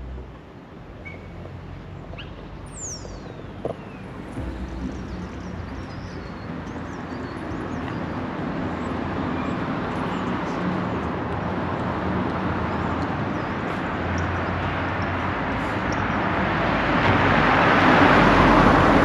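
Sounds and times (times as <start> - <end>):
road vehicle passing: 0.0 - 19.0.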